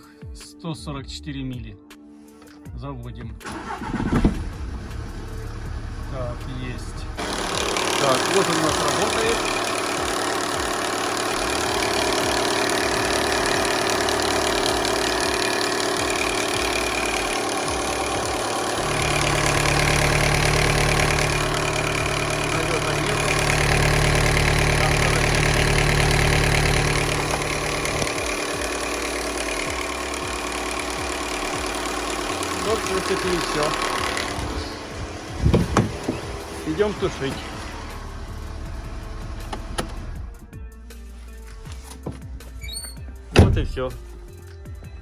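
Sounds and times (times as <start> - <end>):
car engine idling: 3.4 - 40.5, 41.1 - 44.4.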